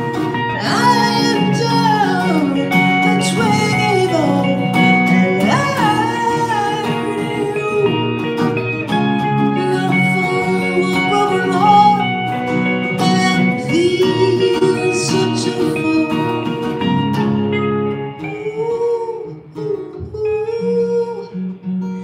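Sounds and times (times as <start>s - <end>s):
person singing: 0.0s - 17.0s, 18.1s - 22.0s
acoustic guitar strumming: 0.0s - 22.0s.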